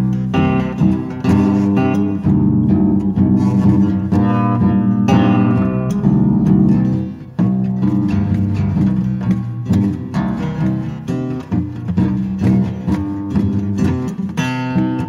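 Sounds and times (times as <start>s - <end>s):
out-of-tune guitar strummed: 0.0s - 15.0s.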